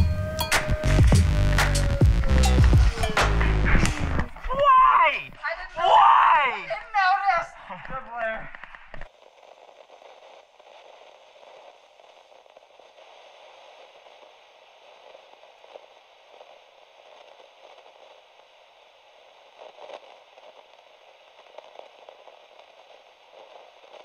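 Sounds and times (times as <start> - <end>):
crackling static hiss: 0.0 - 24.0
static pops: 0.0 - 24.0.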